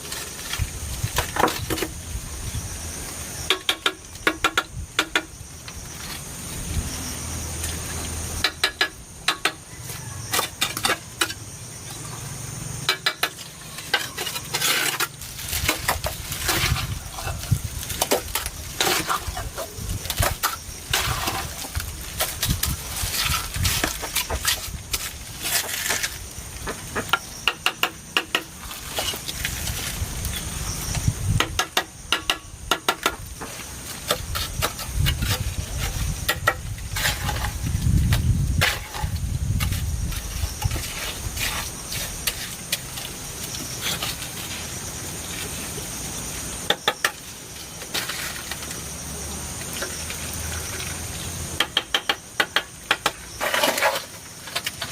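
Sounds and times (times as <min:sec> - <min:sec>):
faint steady high hiss: 0:00.0 - 0:54.9.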